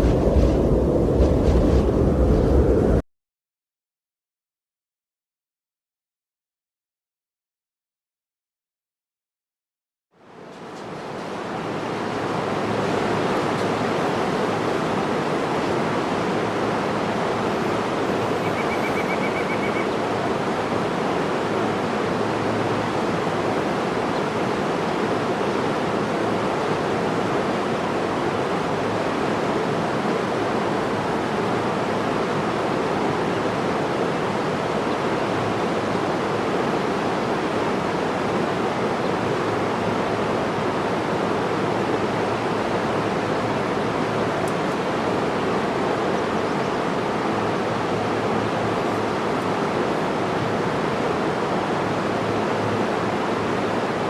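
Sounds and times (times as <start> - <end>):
rushing water: 10.2 - 54.0.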